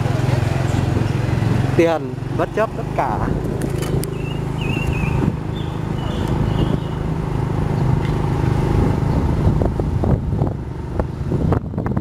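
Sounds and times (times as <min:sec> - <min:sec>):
motorbike engine humming: 0:00.0 - 0:12.0
road and wind noise: 0:00.0 - 0:12.0.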